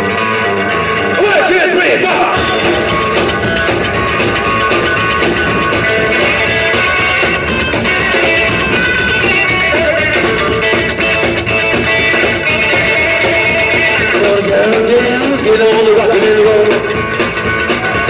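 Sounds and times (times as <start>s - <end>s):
drum kit: 0.0s - 18.0s
electric guitar: 0.0s - 18.0s
upright double bass: 2.2s - 18.0s.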